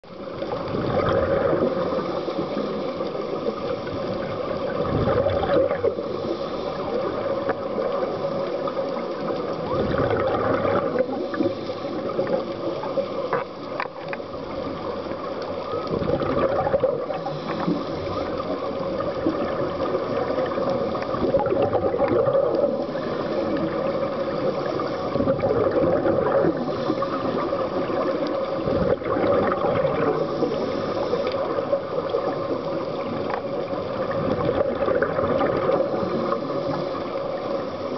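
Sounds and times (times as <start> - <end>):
muffled underwater noise: 0.0 - 37.9
scuba bubbles gurgling: 0.0 - 37.9.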